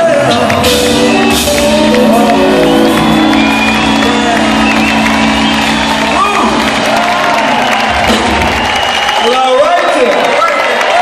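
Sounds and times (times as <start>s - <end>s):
live rock band with vocals: 0.0s - 8.9s
audience shouting and whooping: 0.5s - 11.0s.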